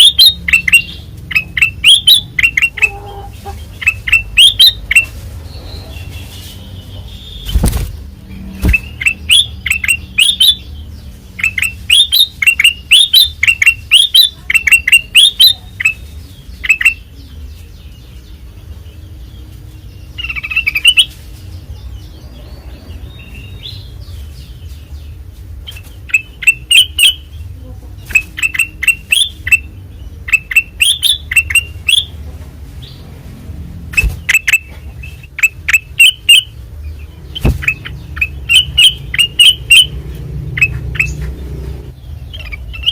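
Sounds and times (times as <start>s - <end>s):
bulbul singing: 0.0s - 33.2s, 33.8s - 42.9s.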